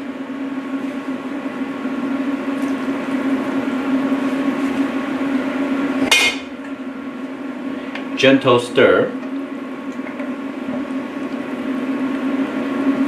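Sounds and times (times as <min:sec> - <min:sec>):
cooktop electric hum: 0:00.0 - 0:13.0.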